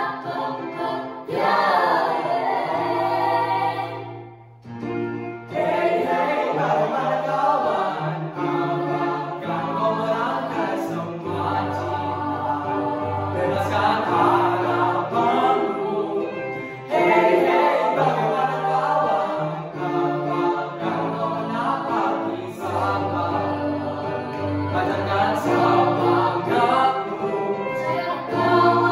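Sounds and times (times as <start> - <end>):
choir singing a cappella: 0.0 - 4.5, 5.4 - 28.9.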